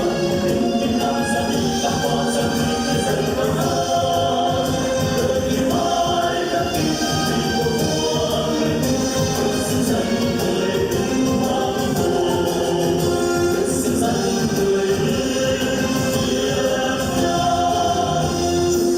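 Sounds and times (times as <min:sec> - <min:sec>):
choir singing: 0:00.0 - 0:18.9
instrumental backing music: 0:00.0 - 0:18.9.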